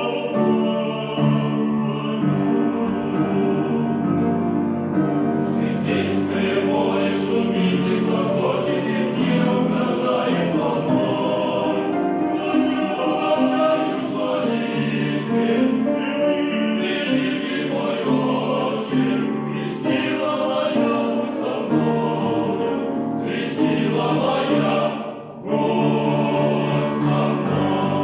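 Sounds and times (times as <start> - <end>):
men's choir singing a hymn: 0.0 - 28.0.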